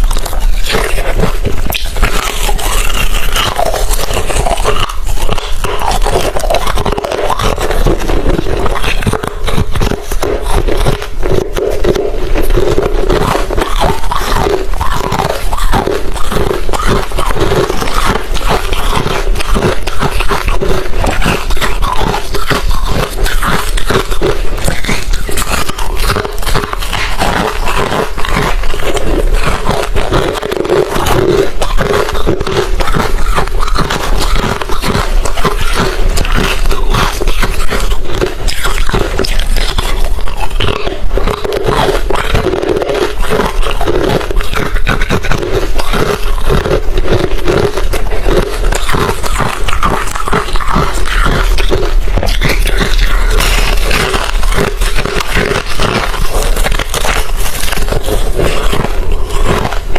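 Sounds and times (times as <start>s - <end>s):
crushed ice being chewed: 0.0s - 59.9s.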